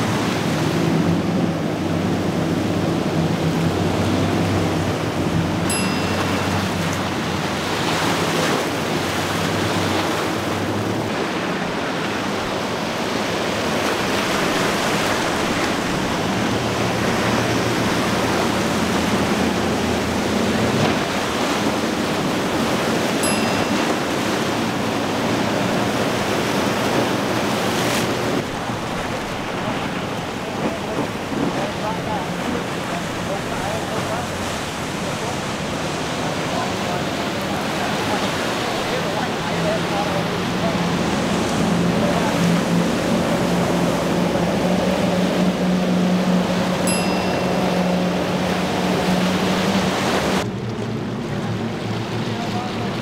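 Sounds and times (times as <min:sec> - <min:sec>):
outboard motors humming: 0:00.0 - 0:53.0
rushing waves and boat spray: 0:00.0 - 0:53.0.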